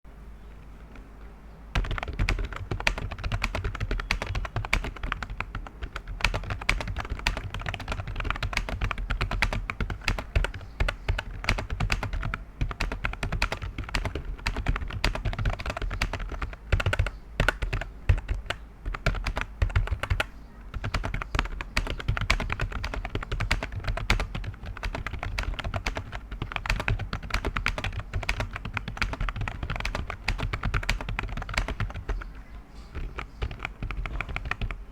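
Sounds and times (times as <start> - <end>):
fast typing on keyboard: 1.8 - 34.9.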